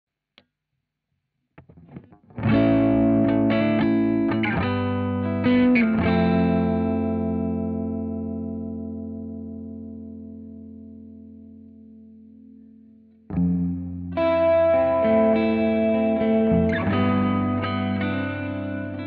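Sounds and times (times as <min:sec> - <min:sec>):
electric guitar chords: 0:01.6 - 0:19.0.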